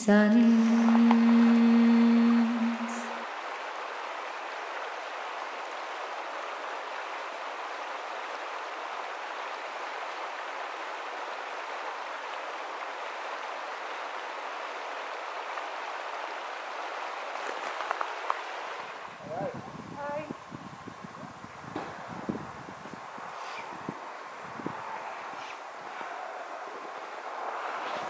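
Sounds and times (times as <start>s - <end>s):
river flowing over stones: 0.0s - 19.2s, 24.0s - 28.0s.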